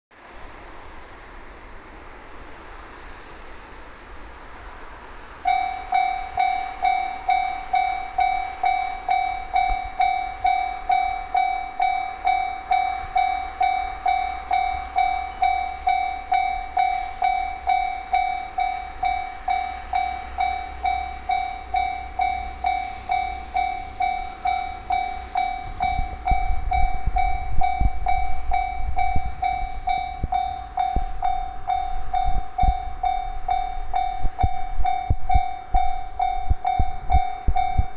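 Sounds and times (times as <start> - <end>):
train rumbling past: 0.1 - 37.9
level-crossing alarm ringing: 5.4 - 37.9.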